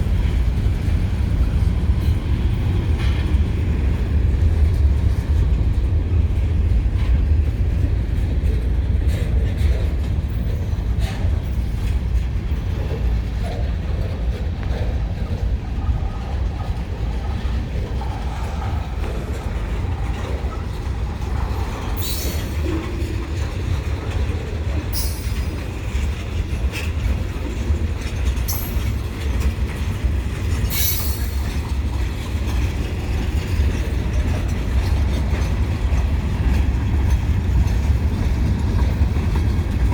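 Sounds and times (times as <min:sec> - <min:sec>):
train rumbling past: 0:00.0 - 0:39.9
wheels clacking over rail joints: 0:00.0 - 0:39.9.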